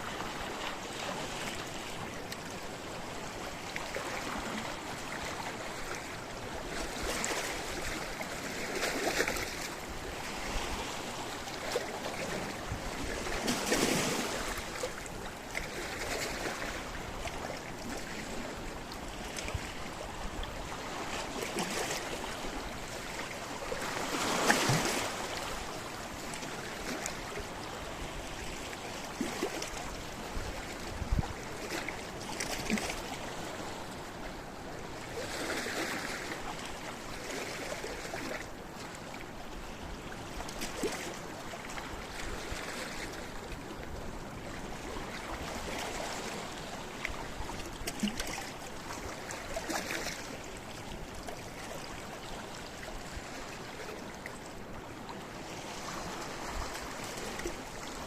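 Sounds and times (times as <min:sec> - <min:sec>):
waves breaking on rocky shore: 0:00.0 - 0:58.0.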